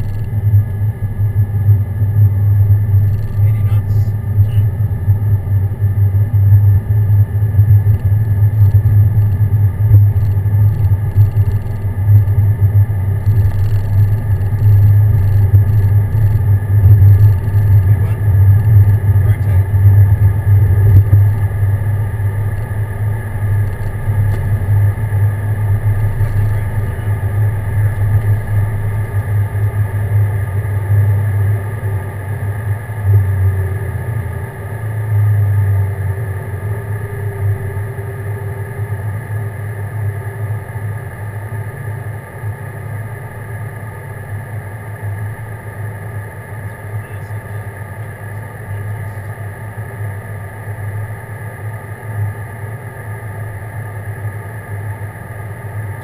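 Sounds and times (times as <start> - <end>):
aircraft engines at takeoff: 0.0 - 56.0.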